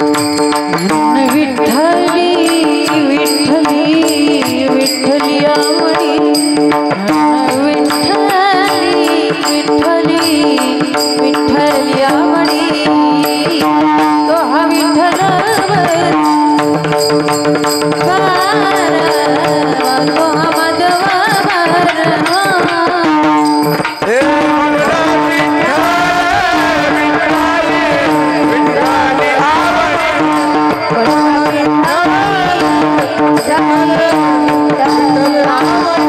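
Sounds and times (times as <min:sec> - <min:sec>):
steady drum beat: 0:00.0 - 0:36.0.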